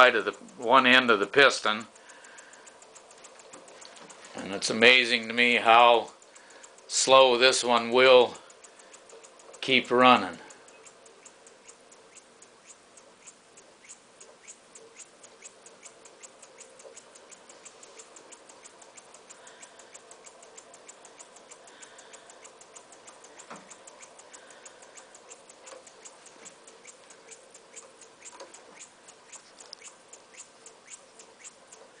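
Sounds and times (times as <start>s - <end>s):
faint air hiss: 0.0s - 32.0s
model air engine ticking: 0.0s - 32.0s.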